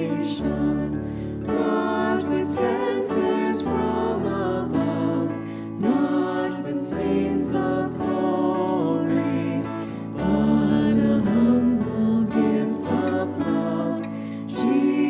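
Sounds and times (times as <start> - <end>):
hymn sung with instruments: 0.0 - 15.0.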